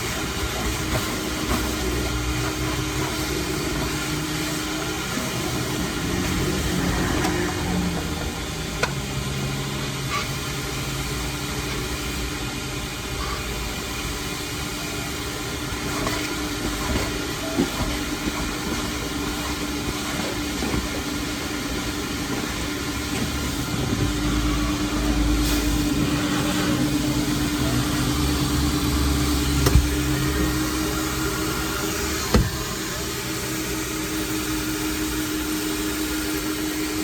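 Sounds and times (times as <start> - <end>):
vacuum cleaner running: 0.0 - 37.0.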